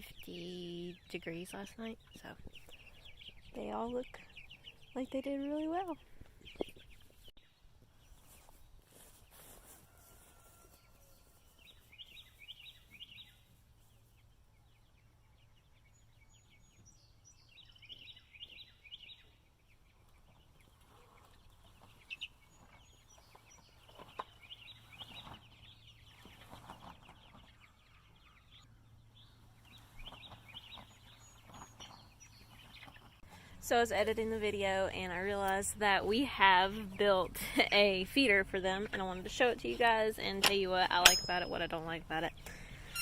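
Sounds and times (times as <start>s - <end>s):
chicks peeping: 0.0s - 43.0s.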